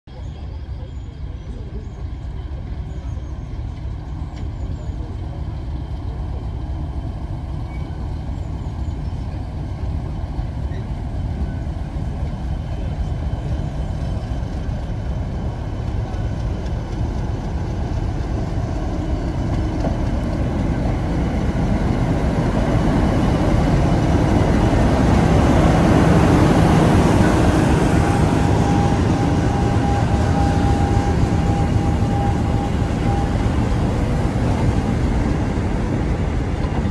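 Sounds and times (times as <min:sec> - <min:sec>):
diesel locomotive engine running: 0:00.1 - 0:36.9.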